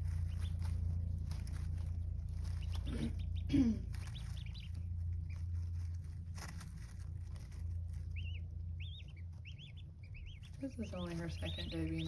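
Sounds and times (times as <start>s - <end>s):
ducklings peeping: 0.0s - 12.0s
rustling in wood shavings: 0.0s - 12.0s
steady low hum: 0.0s - 12.0s.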